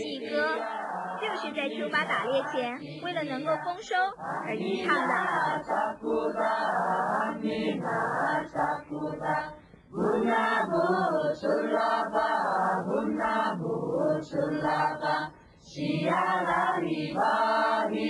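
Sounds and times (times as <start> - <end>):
group chanting: 0.0 - 18.0.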